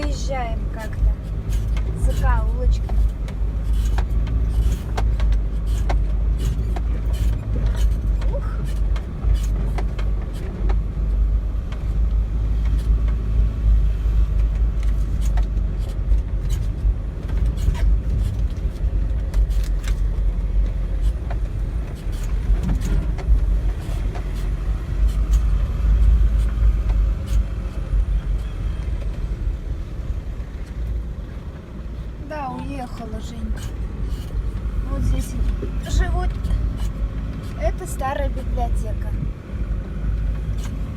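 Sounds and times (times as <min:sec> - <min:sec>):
car knocking and rattling over bumps: 0:00.0 - 0:40.9
low engine and road rumble: 0:00.0 - 0:40.9.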